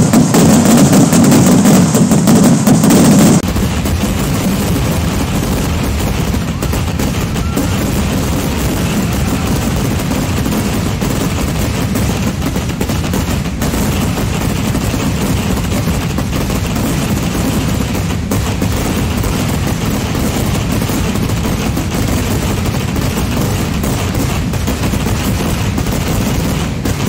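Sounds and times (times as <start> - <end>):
fireworks barrage crackling: 0.0 - 27.0.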